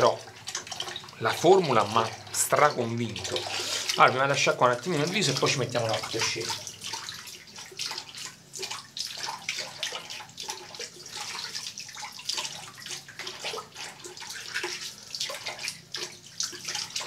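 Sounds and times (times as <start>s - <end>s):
tap water running and splashing: 0.0s - 17.0s.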